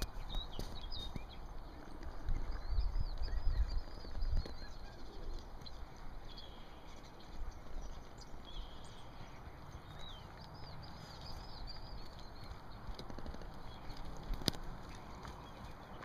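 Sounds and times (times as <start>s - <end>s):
horse hoofbeats on dirt: 0.0s - 16.0s
small birds chirping: 0.0s - 16.0s.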